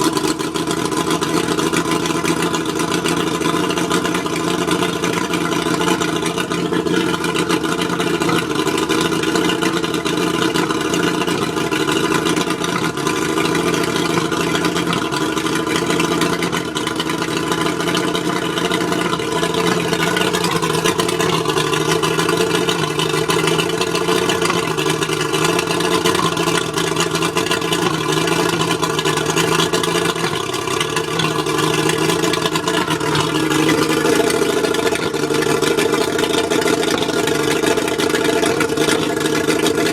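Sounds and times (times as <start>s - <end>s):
outboard motor misfiring: 0.0s - 39.9s.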